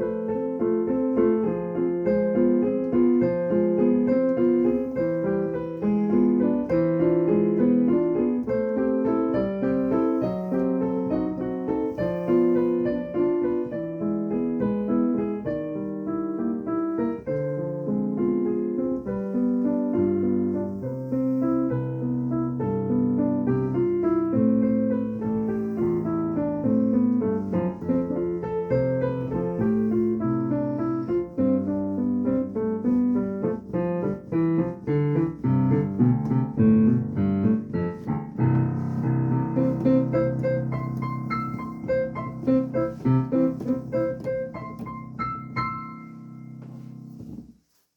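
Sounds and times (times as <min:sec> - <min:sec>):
solo piano music: 0:00.0 - 0:47.9.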